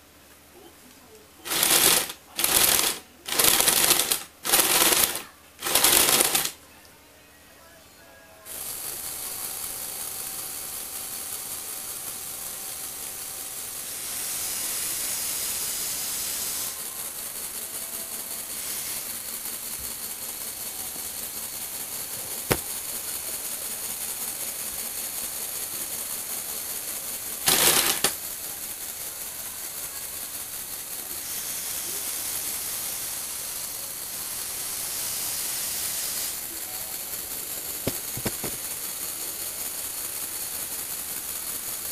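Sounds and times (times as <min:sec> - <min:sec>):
toy motor and plastic gears rattling: 0:01.4 - 0:06.6, 0:08.5 - 0:41.9.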